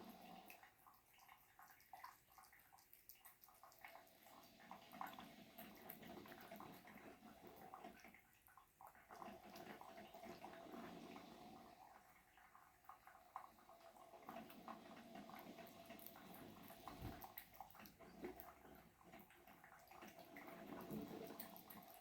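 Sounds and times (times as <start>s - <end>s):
animal chewing wetly: 0.0s - 22.0s.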